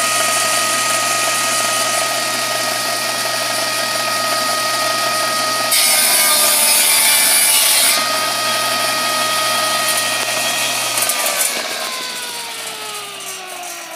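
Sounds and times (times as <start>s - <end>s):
saw blade cutting wood: 0.0s - 13.9s
table saw motor hum and whine: 0.0s - 13.9s.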